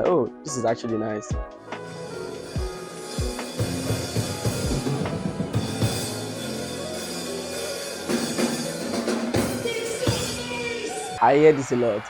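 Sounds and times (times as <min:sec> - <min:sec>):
afrobeats music: 0:01.4 - 0:11.3.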